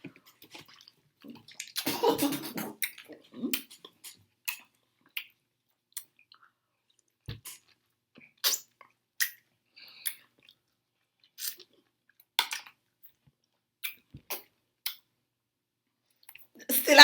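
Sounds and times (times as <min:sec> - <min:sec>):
person chewing wet bites: 0:00.0 - 0:02.0, 0:02.6 - 0:15.1.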